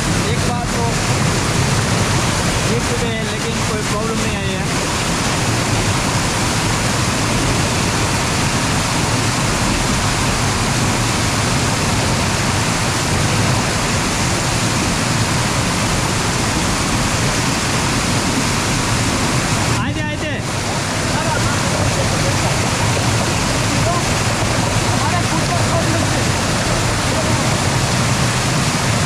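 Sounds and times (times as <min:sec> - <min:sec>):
fast-flowing water rushing: 0:00.0 - 0:29.0.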